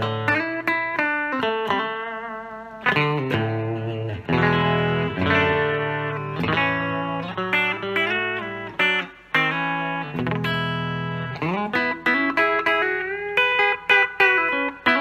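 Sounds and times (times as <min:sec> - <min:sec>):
clean electric guitar: 0:00.0 - 0:15.0.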